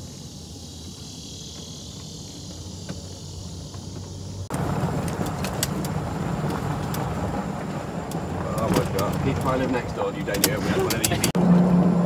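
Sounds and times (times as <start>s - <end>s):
insects chirring: 0.0s - 11.1s
golf cart humming: 0.0s - 12.0s
tyres crunching on gravel: 0.8s - 11.3s.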